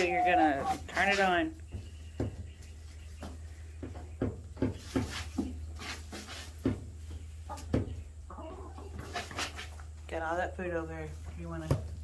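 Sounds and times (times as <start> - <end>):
chickens pecking and scratching: 0.0 - 12.0.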